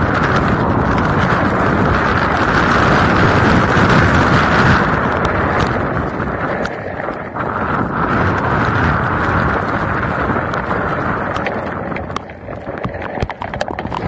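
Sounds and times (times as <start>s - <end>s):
raindrops tapping on camera: 0.0s - 14.0s
wind and rain rushing: 0.0s - 14.0s.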